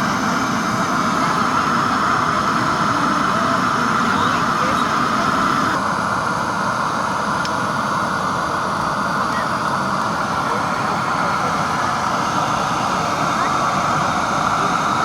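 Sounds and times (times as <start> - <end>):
gas burner flame rushing: 0.0 - 15.0.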